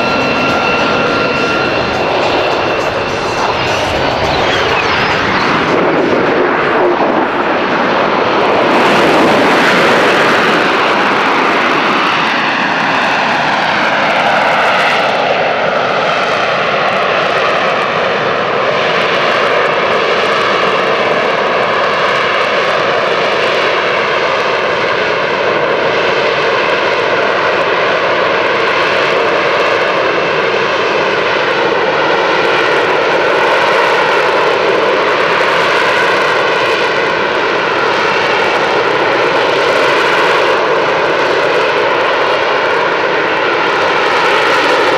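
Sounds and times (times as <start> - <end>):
jet engine roaring: 0.0 - 44.9.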